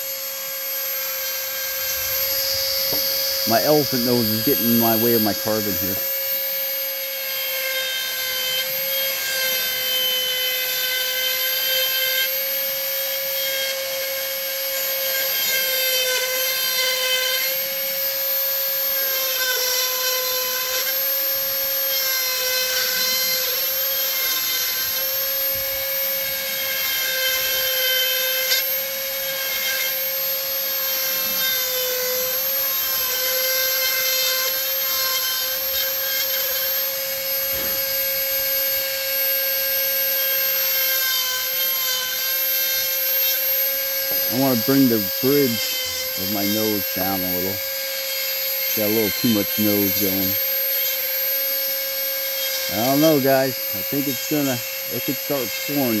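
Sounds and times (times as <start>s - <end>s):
rotary tool grinding wood: 0.0s - 56.0s.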